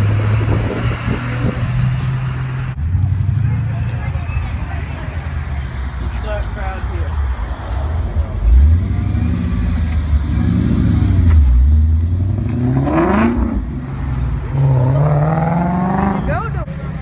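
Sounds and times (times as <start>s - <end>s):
car engine revving: 0.0s - 5.9s, 8.2s - 17.0s.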